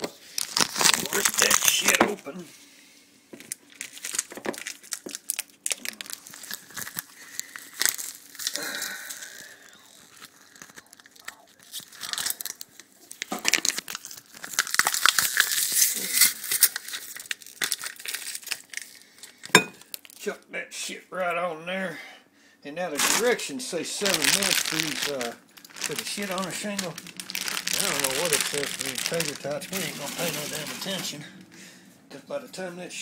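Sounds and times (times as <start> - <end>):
packet tearing and crinkling: 0.0 - 2.2, 3.4 - 20.2, 23.0 - 31.2.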